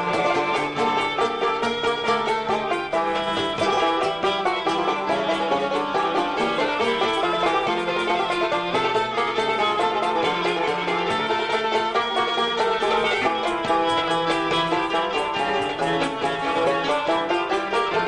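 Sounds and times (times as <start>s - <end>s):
plucked string ensemble melody: 0.0s - 18.0s.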